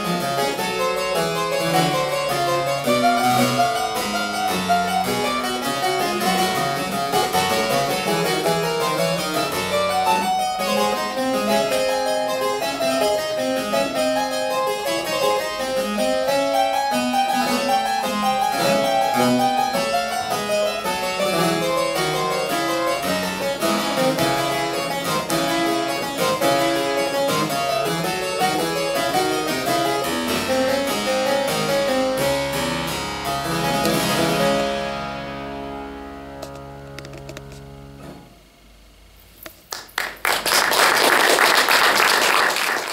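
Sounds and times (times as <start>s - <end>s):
harpsichord playing baroque music: 0.0s - 37.6s.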